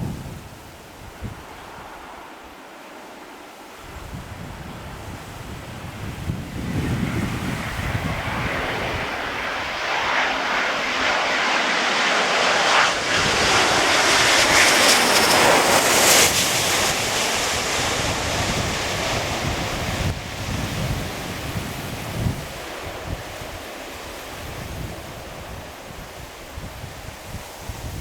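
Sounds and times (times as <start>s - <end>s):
wind buffeting microphone: 0.0s - 2.2s, 3.8s - 28.0s
jet airliner passing: 1.0s - 28.0s.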